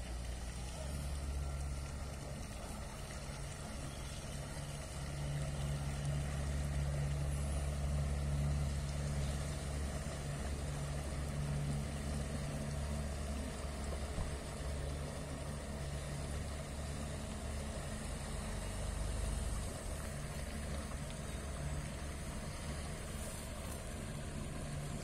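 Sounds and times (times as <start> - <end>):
outboard motor humming: 0.0 - 25.0.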